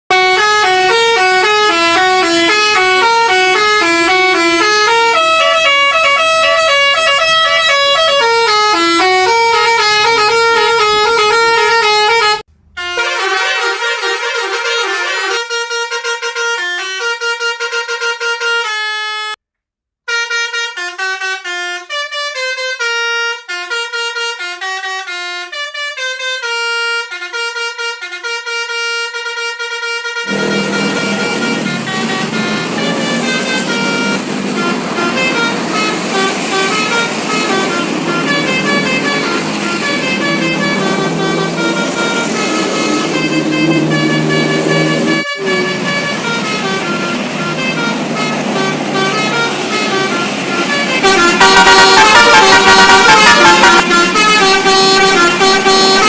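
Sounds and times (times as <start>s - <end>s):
multi-tone bus horn melody: 0.1s - 19.4s, 20.1s - 56.0s.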